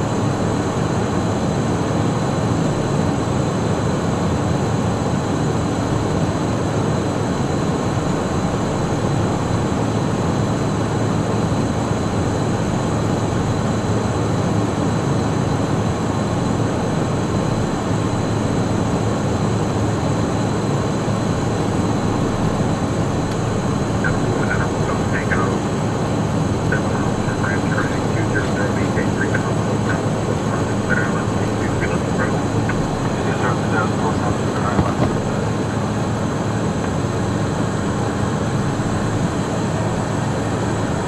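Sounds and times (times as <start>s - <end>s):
jet engines and slipstream rush: 0.0s - 41.0s.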